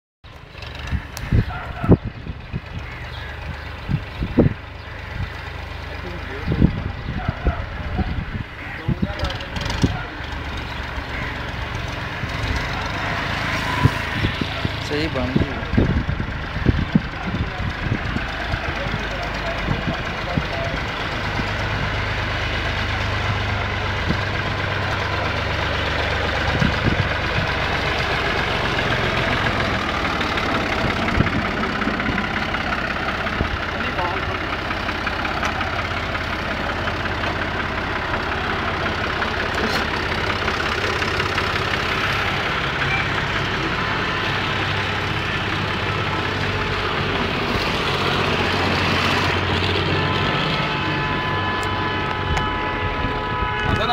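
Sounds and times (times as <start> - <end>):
tractor engine droning: 0.3 - 53.9.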